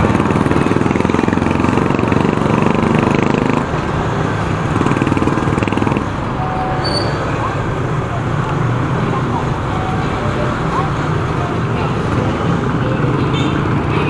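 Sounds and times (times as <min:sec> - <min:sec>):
motorcycle riding along road: 0:00.0 - 0:14.0.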